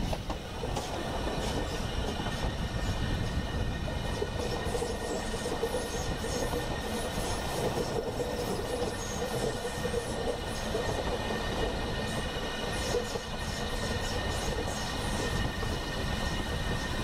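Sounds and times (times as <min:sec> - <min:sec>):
train rolling on rails: 0:00.0 - 0:17.0.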